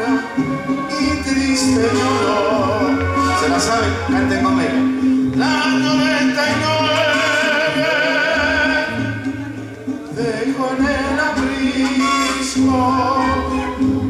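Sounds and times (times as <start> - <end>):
instrumental accompaniment: 0.0 - 14.0
man singing into a microphone: 0.0 - 14.0.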